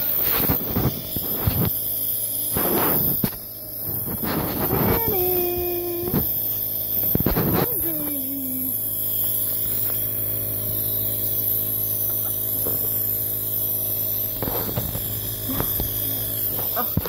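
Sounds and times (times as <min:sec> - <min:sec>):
compressor motor hum: 0:00.0 - 0:17.0.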